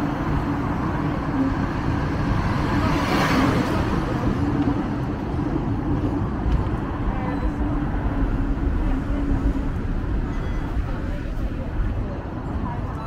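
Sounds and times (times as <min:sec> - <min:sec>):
tram rumbling on track: 0:00.0 - 0:13.0.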